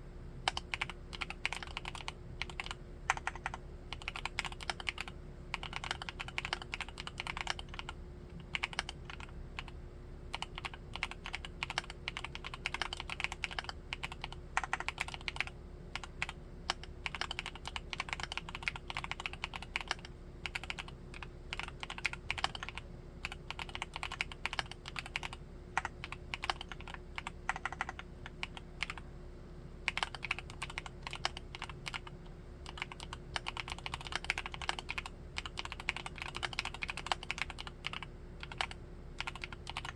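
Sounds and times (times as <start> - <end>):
typing on mechanical keyboard: 0.5 - 29.0, 29.9 - 39.9.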